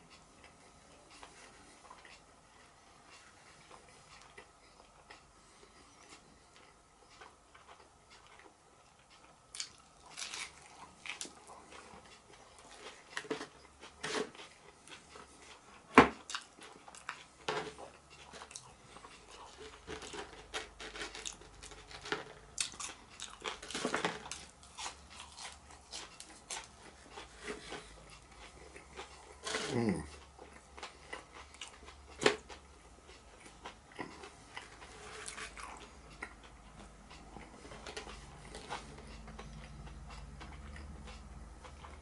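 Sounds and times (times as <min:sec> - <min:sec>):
person chewing and crunching food: 0:00.0 - 0:42.0.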